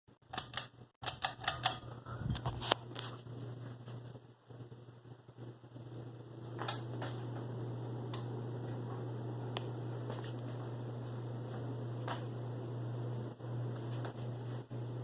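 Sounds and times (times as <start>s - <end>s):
ceiling fan motor hum: 0.3s - 15.0s.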